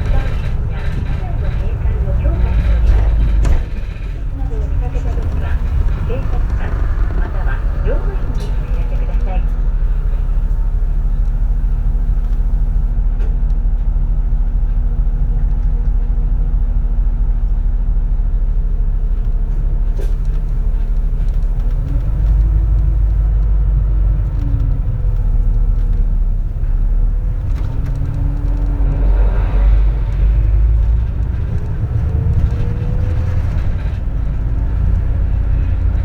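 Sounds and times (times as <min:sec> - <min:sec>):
bus engine from inside cabin: 0:00.0 - 0:36.0.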